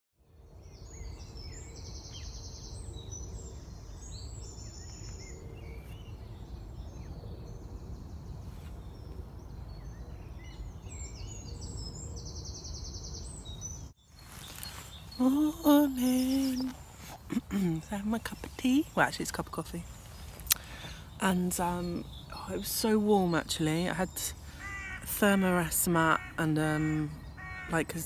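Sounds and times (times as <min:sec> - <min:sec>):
birds singing and chirping: 0:00.4 - 0:28.0.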